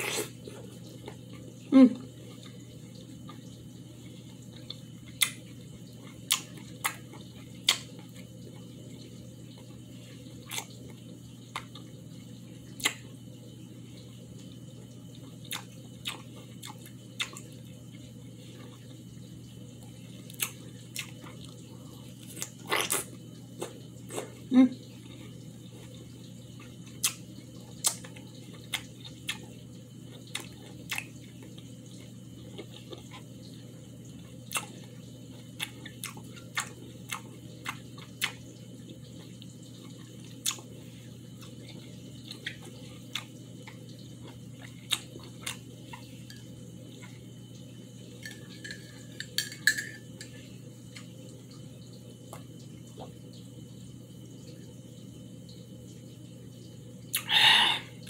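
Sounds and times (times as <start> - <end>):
person chewing wetly: 0.0 - 1.5, 2.2 - 12.1, 12.7 - 13.2, 15.1 - 19.1, 19.8 - 51.6
steady low hum: 0.0 - 58.0.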